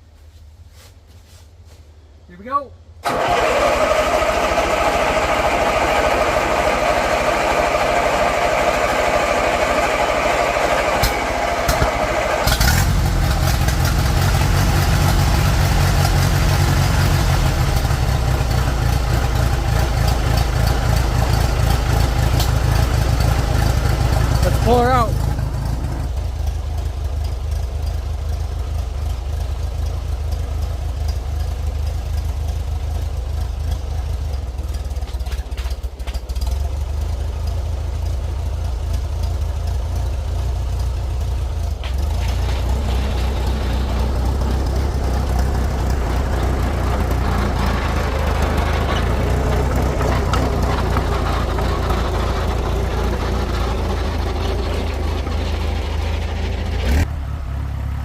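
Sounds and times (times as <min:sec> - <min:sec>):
crawler engine running: 0:02.9 - 0:58.0.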